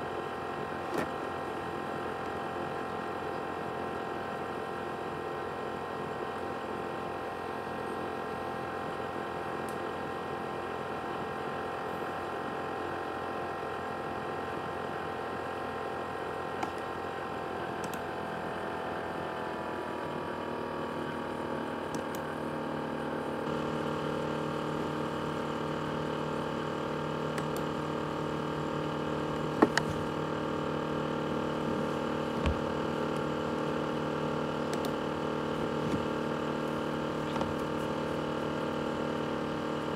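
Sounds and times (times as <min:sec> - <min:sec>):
laptop cooling fan whine: 0:00.0 - 0:39.9.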